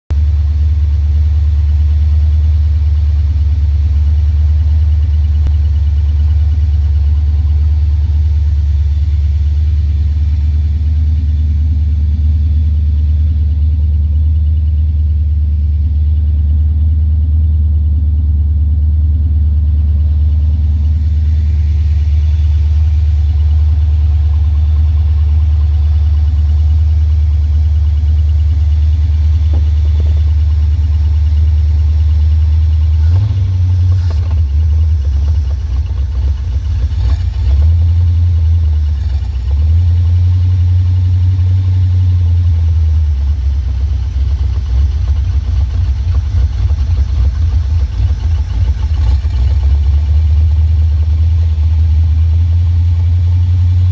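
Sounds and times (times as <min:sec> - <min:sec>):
car engine idling: 0:00.1 - 0:53.9.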